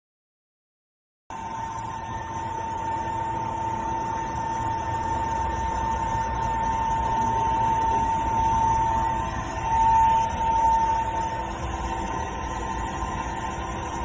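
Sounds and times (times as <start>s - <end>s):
high machine whine: 1.3s - 14.0s
machine rumble: 1.3s - 14.0s.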